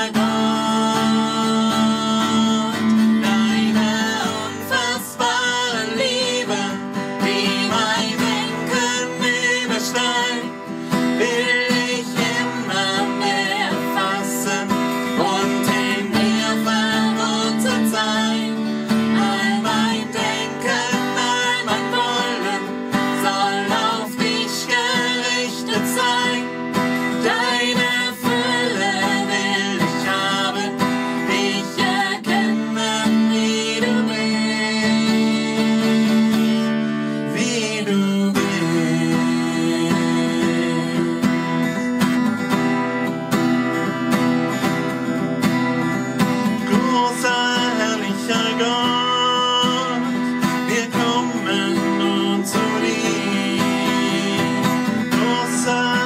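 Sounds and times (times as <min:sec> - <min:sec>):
man and woman singing: 0:00.0 - 0:41.9, 0:46.4 - 0:56.0
acoustic guitar: 0:00.0 - 0:56.0.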